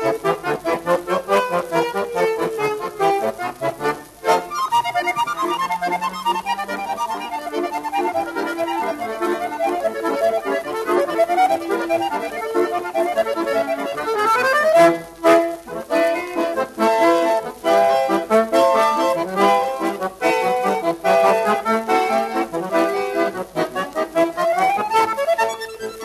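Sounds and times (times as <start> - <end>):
instrumental music: 0.0 - 26.0.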